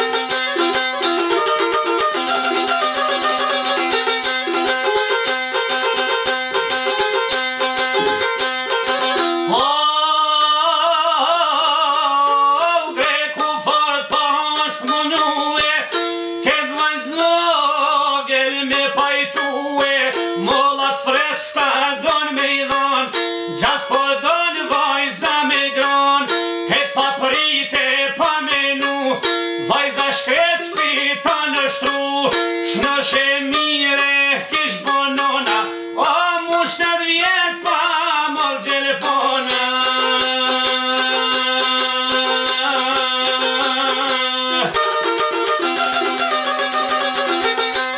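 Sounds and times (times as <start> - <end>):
plucked lute melody: 0.0 - 47.9.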